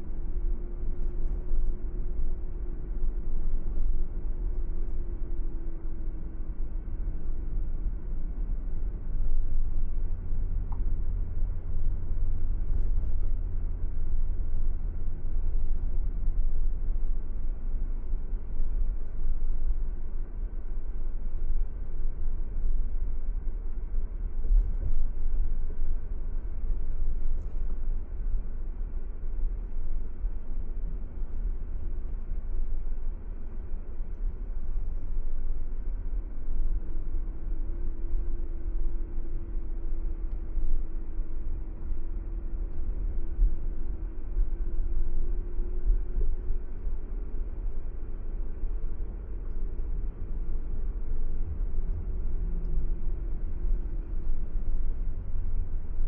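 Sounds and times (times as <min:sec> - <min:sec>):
car road and engine rumble: 0:00.0 - 0:56.0
faint hum: 0:00.0 - 0:56.0.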